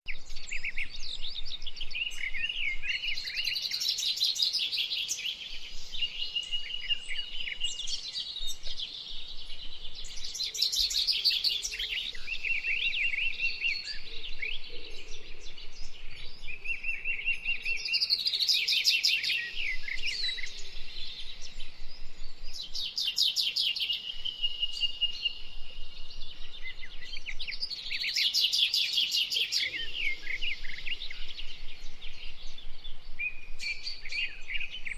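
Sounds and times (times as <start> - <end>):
songbird singing trills and whistles: 0.1 - 34.9.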